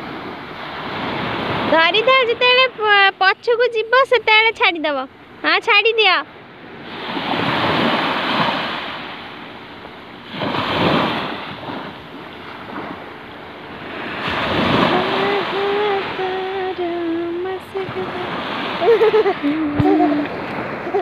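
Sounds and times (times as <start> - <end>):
waves washing up a sandy shore: 0.0 - 3.0, 6.3 - 21.0.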